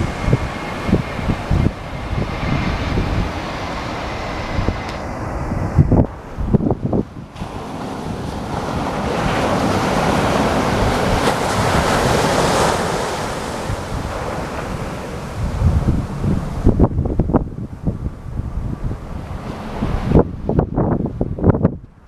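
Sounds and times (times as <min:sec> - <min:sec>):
aircraft passing: 0:00.0 - 0:21.6
wind buffeting microphone: 0:00.0 - 0:22.0.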